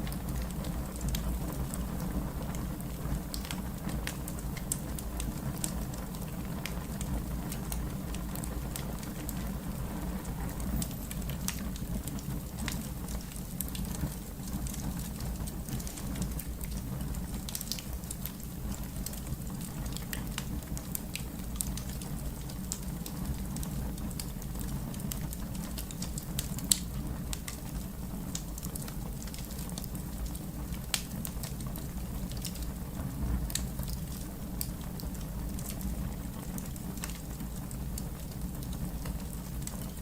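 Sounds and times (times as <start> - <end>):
fire crackling and popping: 0.0 - 40.0
low fire rumble: 0.0 - 40.0.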